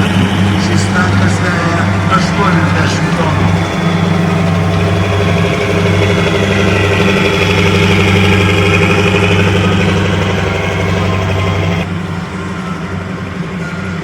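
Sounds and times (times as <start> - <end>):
heavy vehicle engine running: 0.0 - 14.0
high-pitched whine: 0.0 - 14.0.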